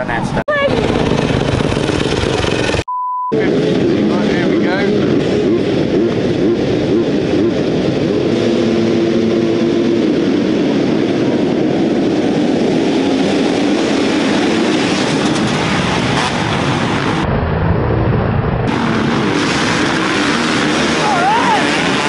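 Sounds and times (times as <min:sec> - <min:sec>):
motorbikes passing close: 0:00.0 - 0:02.8, 0:03.4 - 0:18.0, 0:18.6 - 0:22.0
motocross bikes revving: 0:00.0 - 0:17.2, 0:18.7 - 0:22.0.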